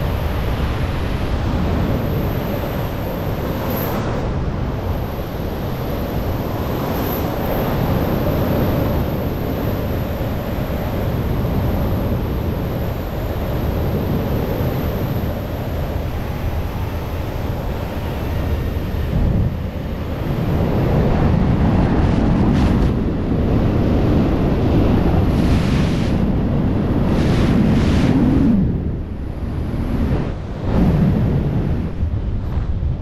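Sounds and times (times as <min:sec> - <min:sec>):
wind roar on microphone: 0:00.0 - 0:33.0.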